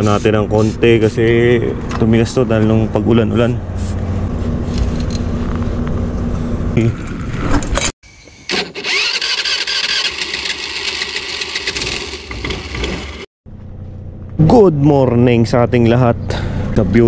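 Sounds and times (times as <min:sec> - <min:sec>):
engine hum: 0:00.0 - 0:07.9, 0:08.7 - 0:17.0.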